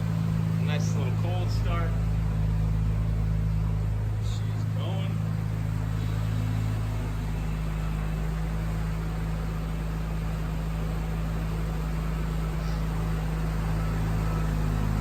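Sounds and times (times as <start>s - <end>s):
rotary engine idling: 0.0s - 15.0s.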